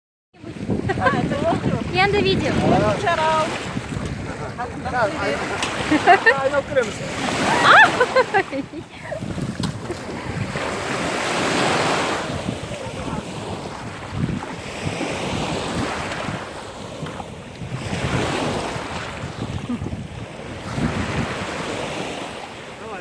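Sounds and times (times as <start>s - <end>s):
wind buffeting microphone: 0.4s - 22.8s
sea waves washing in: 0.4s - 23.0s.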